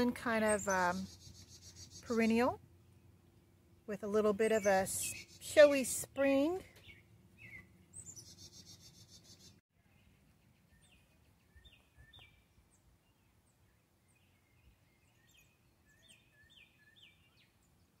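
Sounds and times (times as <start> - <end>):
distant birds chirping: 0.0 - 18.0.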